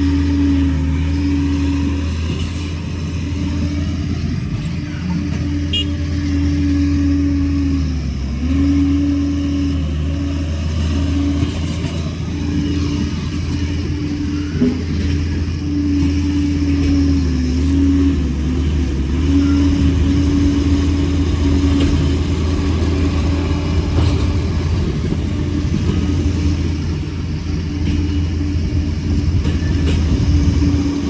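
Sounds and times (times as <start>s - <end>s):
dozer diesel engine running: 0.0s - 31.0s.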